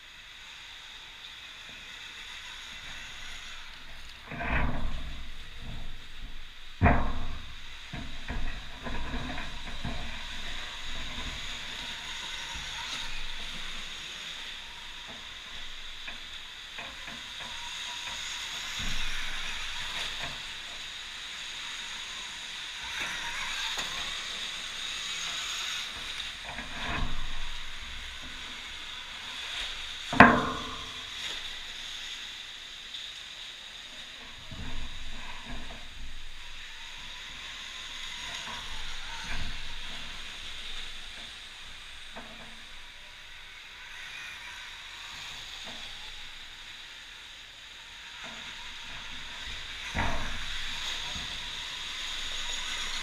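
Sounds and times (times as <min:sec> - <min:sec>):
tyres and air hissing: 0:00.0 - 0:53.0.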